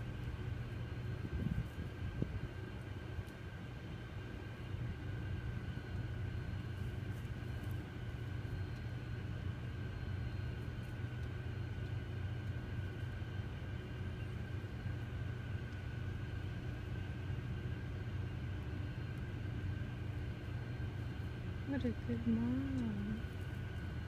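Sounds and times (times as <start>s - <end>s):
faint high whine: 0.0s - 24.0s
low mechanical rumble: 0.0s - 24.0s.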